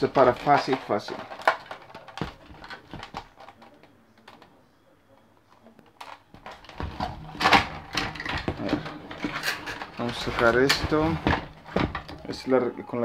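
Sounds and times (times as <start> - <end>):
hard plastic parts clicking: 0.0 - 4.6, 5.6 - 12.4.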